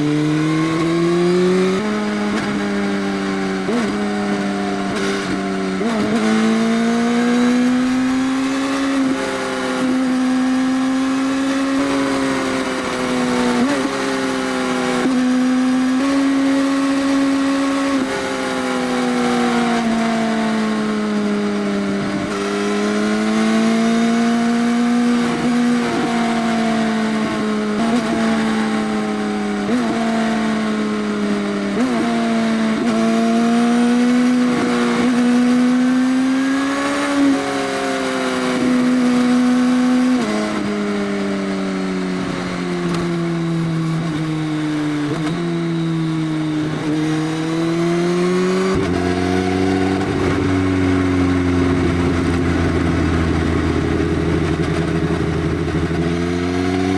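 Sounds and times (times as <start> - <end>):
loud motorcycle engine: 0.0 - 56.9.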